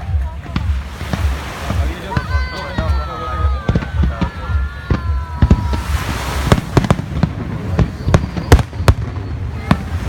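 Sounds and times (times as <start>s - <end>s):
fireworks bangs: 0.0s - 10.0s
fireworks crackling hiss: 0.5s - 10.0s.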